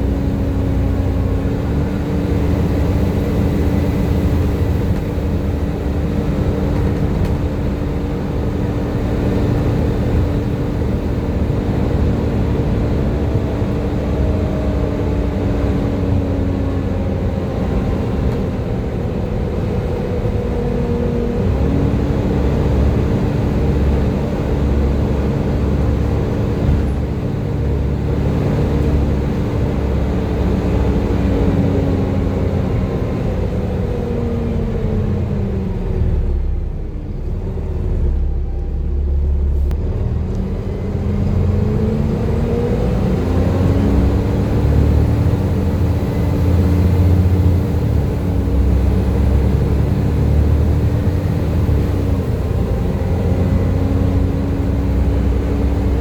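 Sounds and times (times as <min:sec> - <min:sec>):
bus engine whine: 0:00.0 - 0:56.0.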